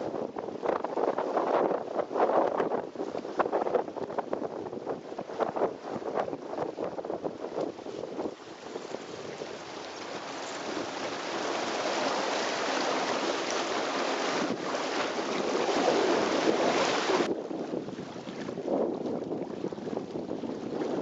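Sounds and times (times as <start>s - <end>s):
water washing along boat hull: 0.0s - 21.0s
wind on microphone: 0.0s - 21.0s.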